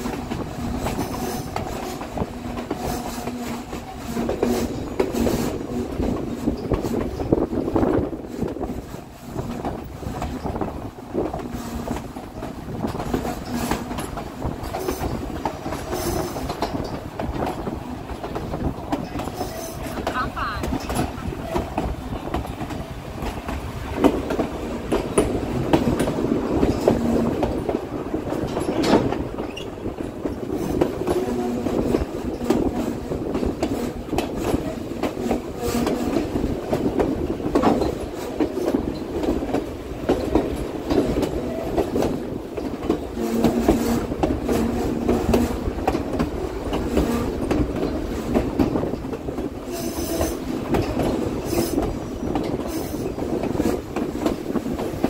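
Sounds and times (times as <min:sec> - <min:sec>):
train cars clattering: 0:00.0 - 0:55.0
train wheels rumbling on rails: 0:00.0 - 0:55.0.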